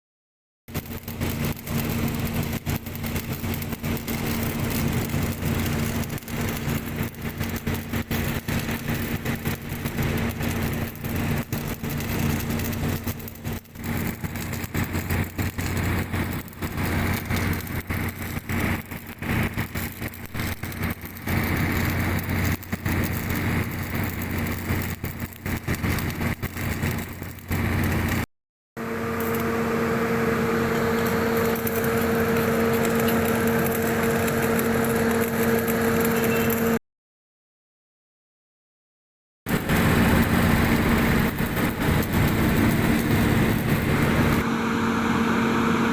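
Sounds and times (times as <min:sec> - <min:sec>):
engine rattling: 0:00.7 - 0:28.2, 0:28.8 - 0:36.8, 0:39.5 - 0:45.9
machine whine: 0:00.7 - 0:36.8, 0:39.5 - 0:45.9.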